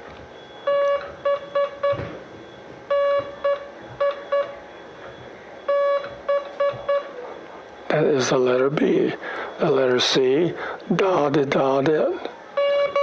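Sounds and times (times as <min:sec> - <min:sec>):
morse code beeps: 0:00.3 - 0:13.0.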